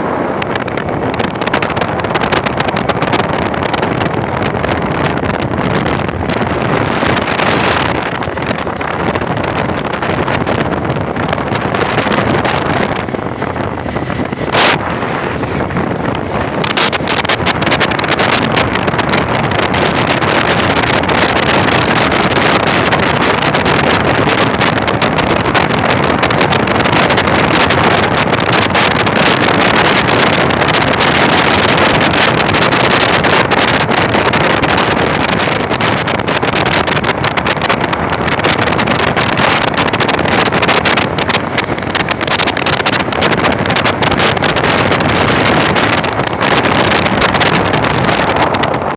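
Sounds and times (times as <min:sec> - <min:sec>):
motorcycle engine: 0:00.0 - 0:48.9
wind rush on microphone: 0:00.0 - 0:48.9.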